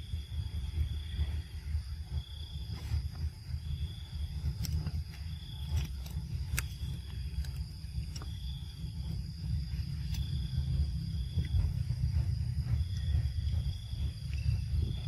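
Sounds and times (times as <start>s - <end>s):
insects calling: 0.0s - 15.0s
low rumble: 0.0s - 15.0s.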